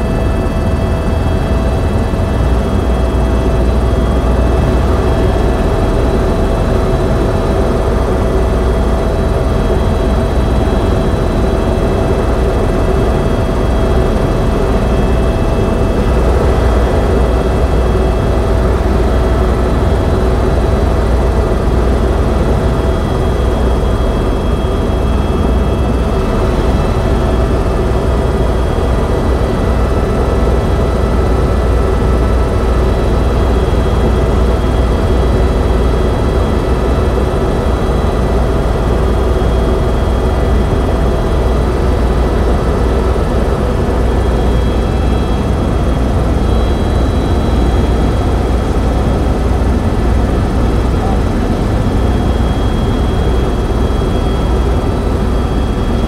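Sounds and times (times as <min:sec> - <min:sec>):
helicopter engine and rotors rumbling: 0:00.0 - 0:56.0
high-pitched turbine whine: 0:00.0 - 0:56.0.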